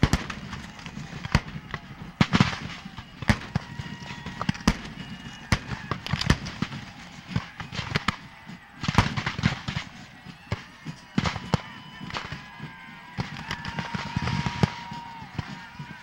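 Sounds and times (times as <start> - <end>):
rifle-muskets firing: 0.0 - 15.9.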